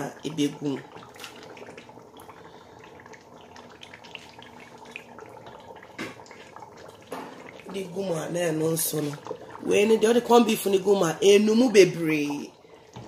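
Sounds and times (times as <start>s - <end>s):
stew bubbling in a pot: 0.0s - 13.0s.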